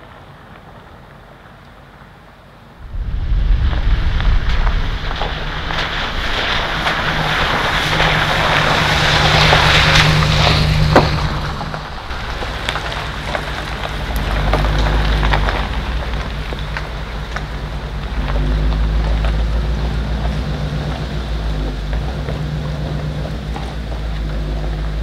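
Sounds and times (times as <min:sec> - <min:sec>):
stones ticking under tyres: 0:00.0 - 0:02.2, 0:02.8 - 0:25.0
bus engine humming: 0:00.0 - 0:25.0
tyres crunching on wet gravel: 0:00.0 - 0:25.0.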